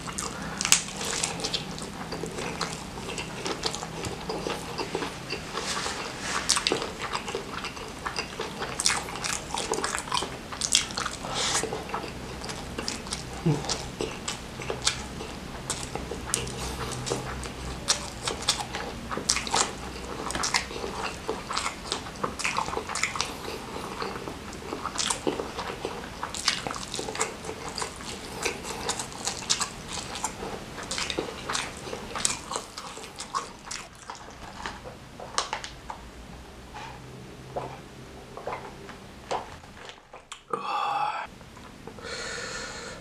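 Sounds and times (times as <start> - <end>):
lip smacking: 0.0 - 34.8
wet chewing: 0.0 - 36.1, 36.7 - 40.5.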